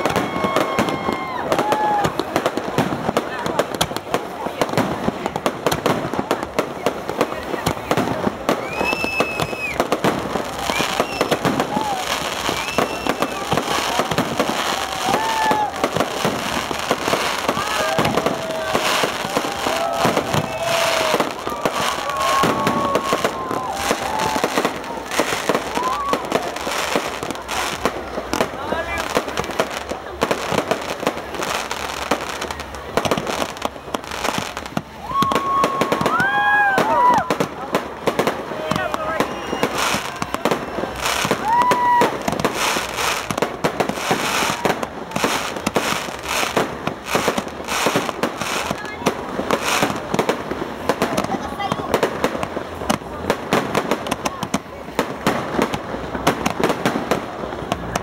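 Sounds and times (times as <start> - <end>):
fireworks bangs and crackling: 0.0 - 58.0
fireworks whistling: 0.0 - 58.0.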